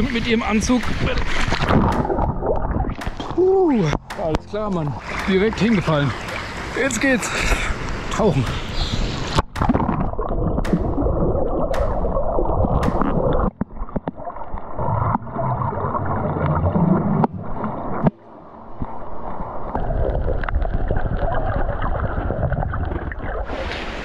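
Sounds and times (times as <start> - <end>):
muffled underwater rushing and gurgling: 0.0 - 24.0.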